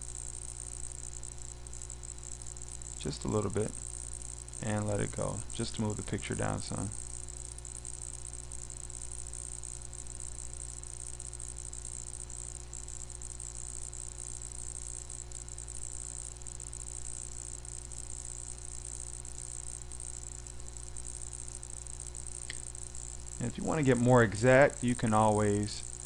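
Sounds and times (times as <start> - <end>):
electrical hum with hiss: 0.0 - 26.0.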